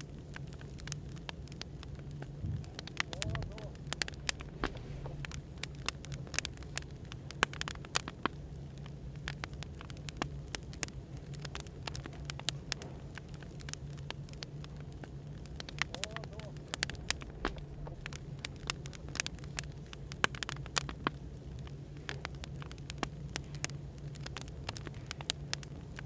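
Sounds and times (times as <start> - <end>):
cafe background noise: 0.0 - 26.0
firewood crackling and popping: 0.0 - 26.0.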